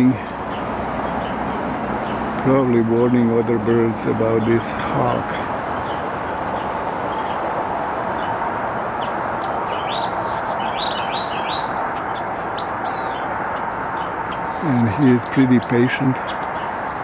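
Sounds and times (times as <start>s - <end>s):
highway traffic roar: 0.0s - 17.0s
small birds chirping: 0.0s - 17.0s.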